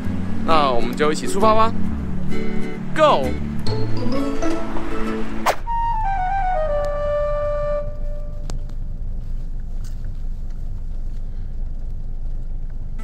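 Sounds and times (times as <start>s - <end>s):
car rumble inside cabin: 0.0s - 13.0s.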